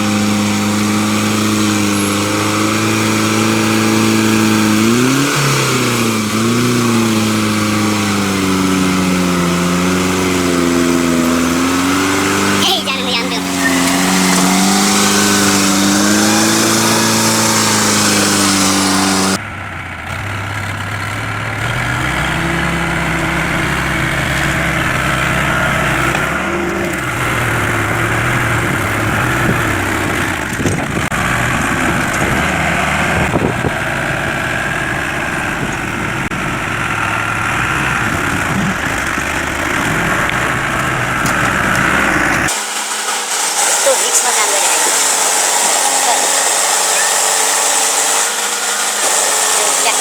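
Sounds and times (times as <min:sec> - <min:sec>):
tractor engines revving: 0:00.0 - 0:50.0.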